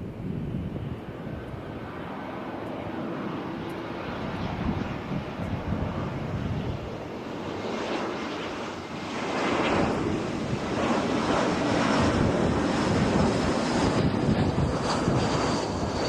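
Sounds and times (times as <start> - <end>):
jet engine roar: 0.0 - 16.0
wind buffeting microphone: 0.0 - 16.0.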